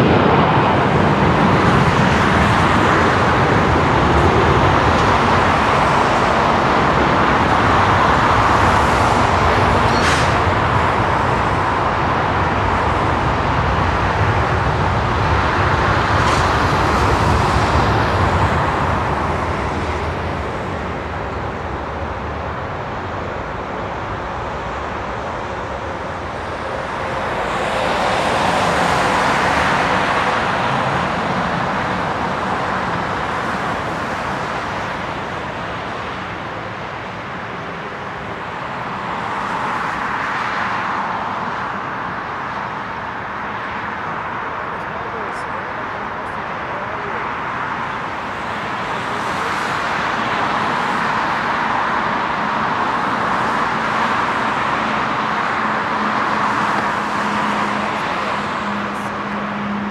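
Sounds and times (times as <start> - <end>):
jet engines roaring at takeoff: 0.0 - 59.9.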